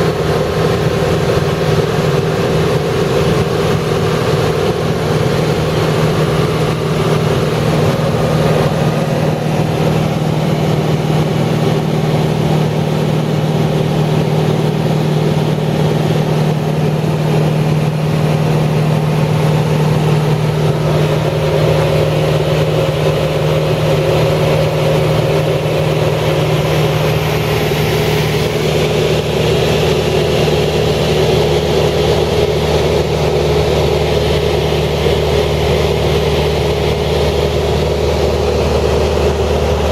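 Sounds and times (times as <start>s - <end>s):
engine hum: 0.0s - 39.9s.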